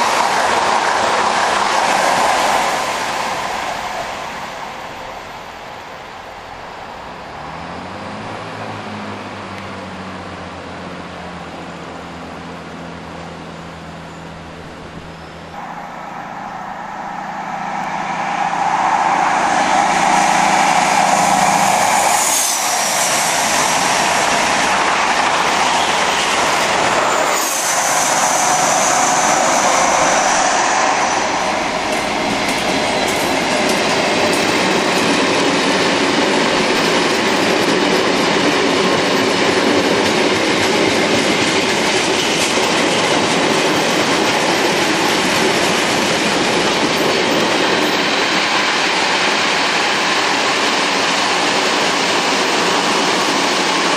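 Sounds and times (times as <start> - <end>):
freight train passing: 0.0 - 53.9.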